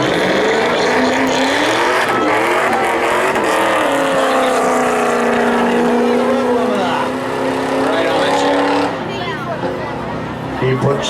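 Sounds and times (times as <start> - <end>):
truck engines at full throttle: 0.0 - 11.0.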